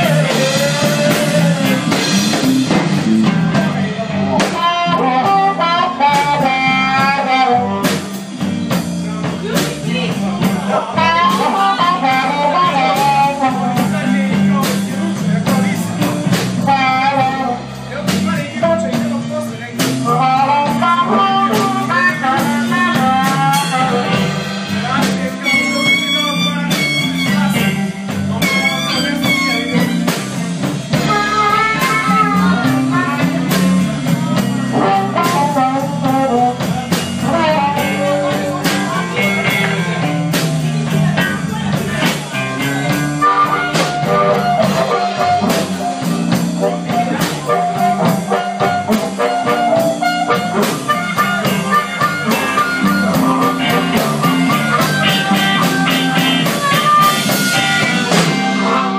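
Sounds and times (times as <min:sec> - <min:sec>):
blues band playing: 0:00.0 - 0:58.9
electric guitar bending notes: 0:00.0 - 0:58.9.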